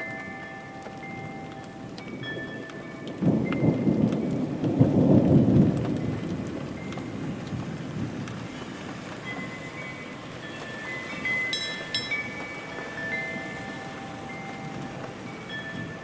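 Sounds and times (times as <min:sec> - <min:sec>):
steady rain: 0:00.0 - 0:16.0
thunder rumble: 0:01.2 - 0:16.0.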